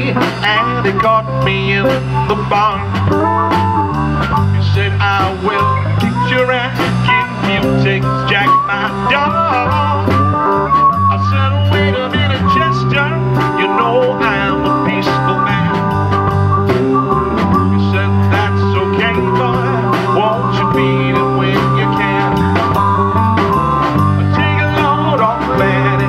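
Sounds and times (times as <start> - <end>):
blues rock band playing: 0.0 - 26.0
harmonica lead lines: 0.0 - 26.0.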